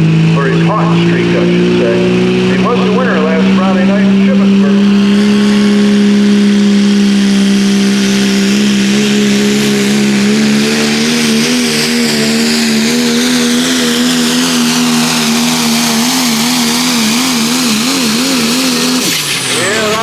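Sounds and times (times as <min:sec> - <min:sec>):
diesel truck engine at full throttle: 0:00.0 - 0:20.0.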